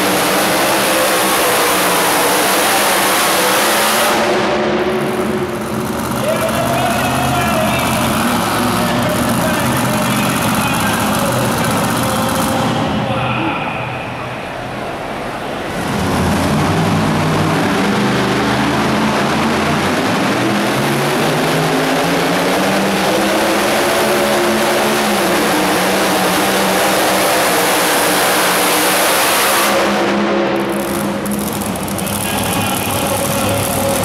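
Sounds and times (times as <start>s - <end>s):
truck engine at high revs: 0.0s - 13.1s, 14.0s - 34.0s.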